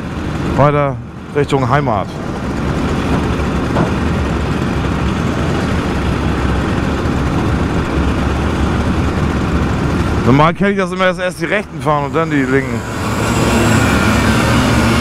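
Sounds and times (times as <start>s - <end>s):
vehicle engine noise: 0.0s - 15.0s.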